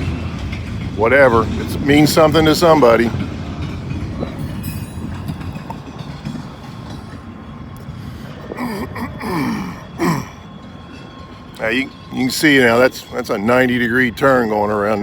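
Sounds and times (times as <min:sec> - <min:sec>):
freight train wheels rumbling: 0:00.0 - 0:15.0
train wheel squeals: 0:00.0 - 0:15.0.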